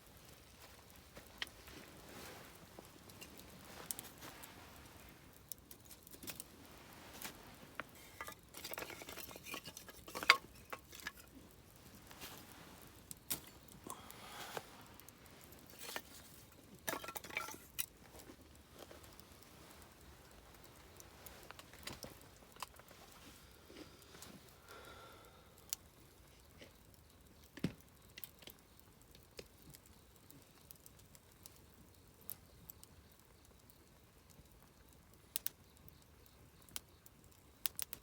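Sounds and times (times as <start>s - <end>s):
campfire crackling and popping: 0.0s - 38.0s
fire soft hiss: 0.0s - 38.0s.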